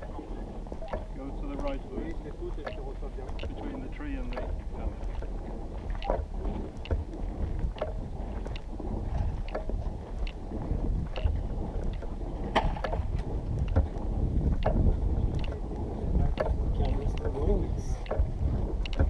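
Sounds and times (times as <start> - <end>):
small irregular clicks and taps: 0.0 - 19.0
wind buffeting microphone: 0.0 - 19.0.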